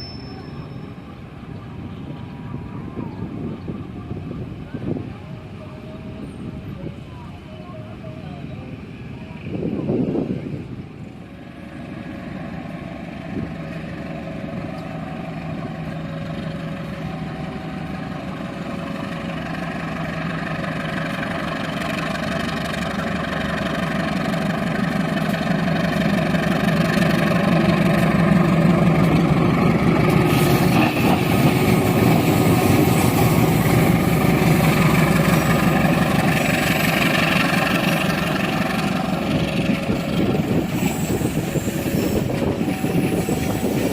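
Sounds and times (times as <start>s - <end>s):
diesel locomotive engine drone: 0.0s - 43.9s.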